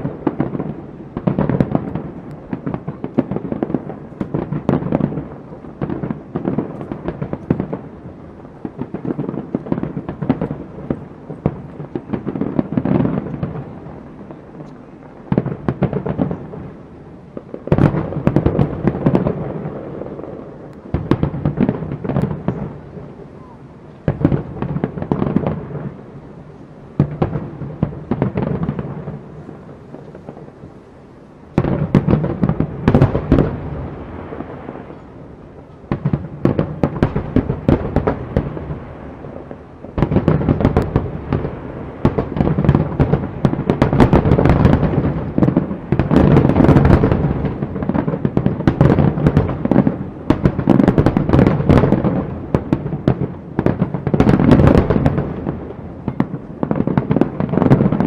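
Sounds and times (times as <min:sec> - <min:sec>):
firework bursts booming: 0:00.0 - 0:58.0
fireworks crackling: 0:00.0 - 0:58.0.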